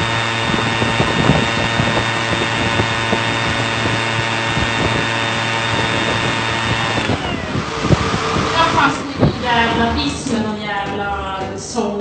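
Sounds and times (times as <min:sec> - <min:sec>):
electric blower rushing air: 0:00.0 - 0:10.6.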